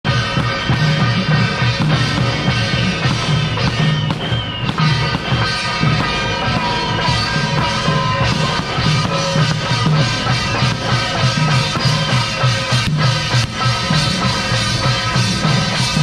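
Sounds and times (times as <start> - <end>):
drum and cymbals beating: 0.0 - 16.0
melody of sustained notes: 0.1 - 16.0.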